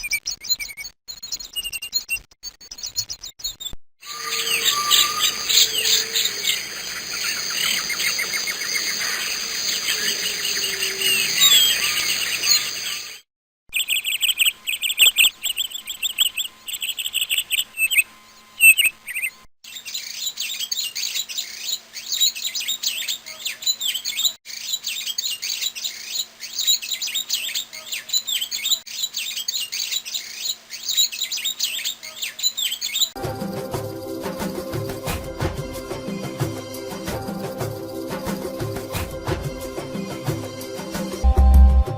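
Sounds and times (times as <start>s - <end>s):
songbirds chirping and singing: 4.1s - 13.2s, 13.8s - 41.3s.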